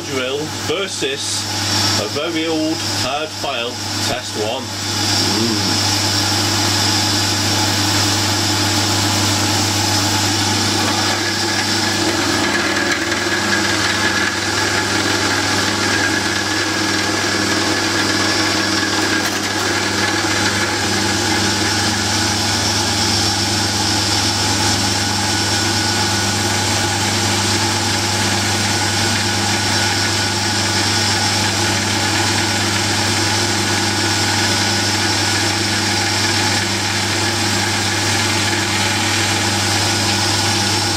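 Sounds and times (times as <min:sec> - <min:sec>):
milling machine humming: 0:00.0 - 0:40.9
drill bit spinning against steel: 0:01.5 - 0:05.2, 0:05.8 - 0:40.9.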